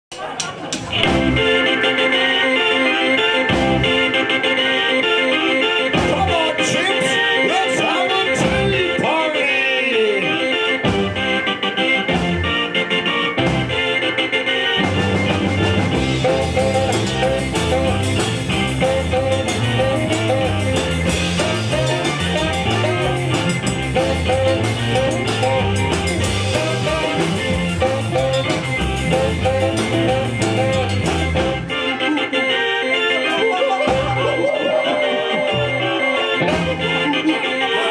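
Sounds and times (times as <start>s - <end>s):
drum kit beat: 0.1s - 9.0s, 10.8s - 12.8s, 14.8s - 31.9s, 33.3s - 37.4s
electric guitars: 0.1s - 37.9s
bass line: 0.8s - 37.8s
saxophone melody: 0.9s - 37.9s.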